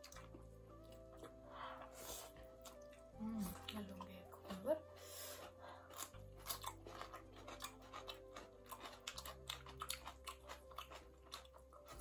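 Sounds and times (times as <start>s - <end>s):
people chewing and biting food: 0.0s - 12.0s.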